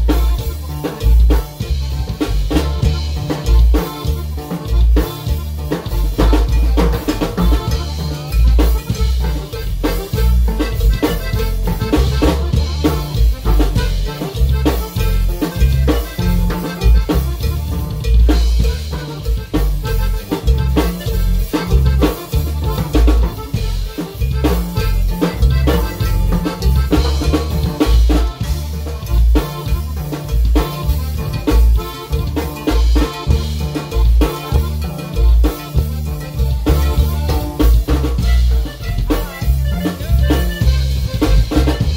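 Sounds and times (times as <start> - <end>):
live dance band music: 0.0 - 41.9
thumping drum beat: 0.0 - 41.9.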